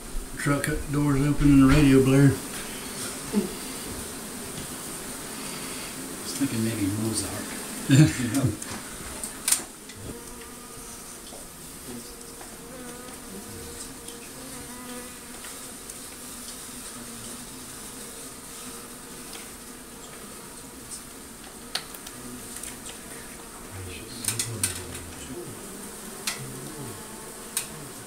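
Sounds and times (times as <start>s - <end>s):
honey bees buzzing: 0.0s - 28.0s.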